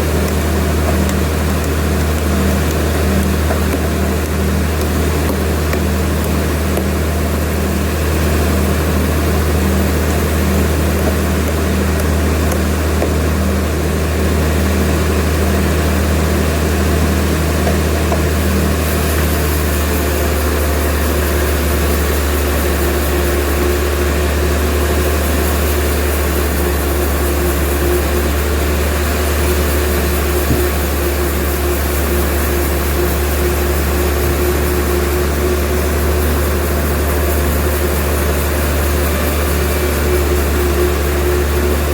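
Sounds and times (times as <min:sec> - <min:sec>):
high steady machine tone: 0:00.0 - 0:41.9
sawmill machinery droning: 0:00.0 - 0:41.9.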